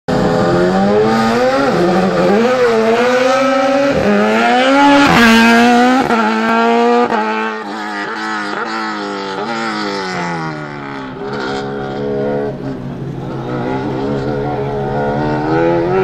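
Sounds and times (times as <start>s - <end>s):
race car engine revving: 0.1s - 16.0s.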